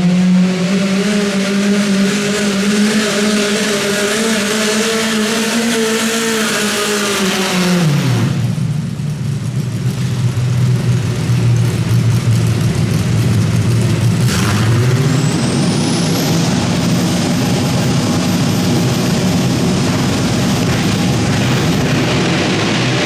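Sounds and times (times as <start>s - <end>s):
tractor engine revving: 0.0s - 23.0s.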